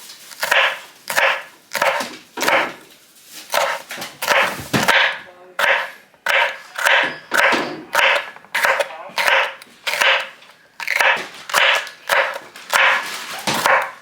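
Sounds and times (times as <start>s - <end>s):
knife slicing peppers on cutting board: 0.0s - 2.8s, 3.4s - 14.0s.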